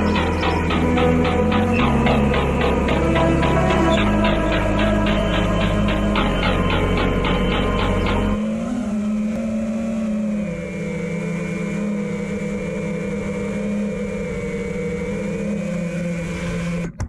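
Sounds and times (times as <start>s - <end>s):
quadcopter motors humming: 0.0s - 17.0s.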